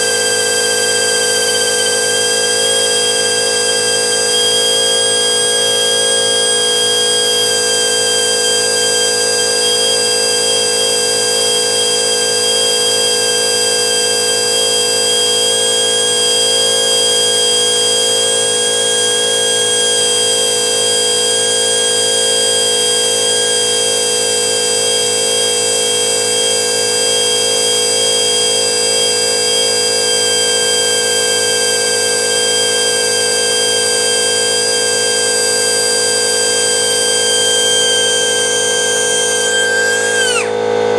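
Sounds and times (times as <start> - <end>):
pneumatic die grinder whining: 0.0 - 40.9.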